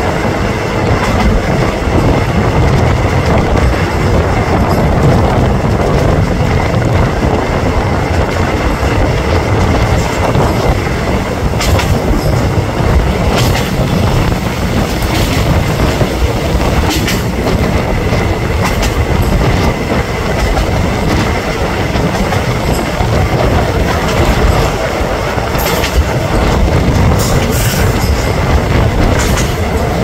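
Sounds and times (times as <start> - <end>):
train wheels rumbling on rails: 0.0 - 30.0
wheels clacking over rail joints: 0.0 - 30.0.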